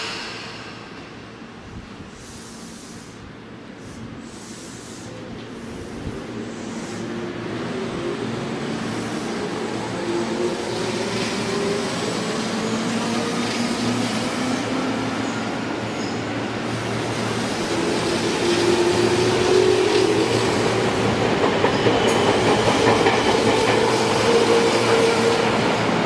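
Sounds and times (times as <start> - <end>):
electric train approaching: 0.0 - 2.3, 5.3 - 26.0.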